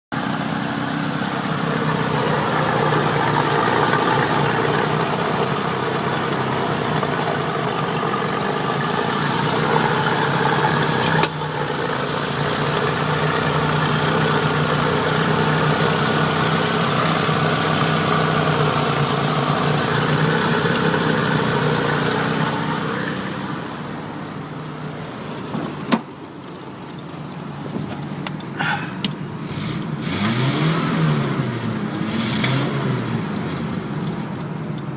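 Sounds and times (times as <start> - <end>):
petrol engine idling: 0.2 - 30.0.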